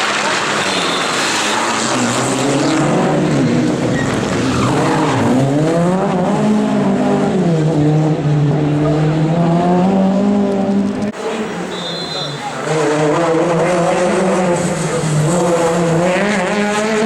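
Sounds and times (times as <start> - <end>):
rally car engine revving: 0.0 - 11.6, 12.5 - 17.0.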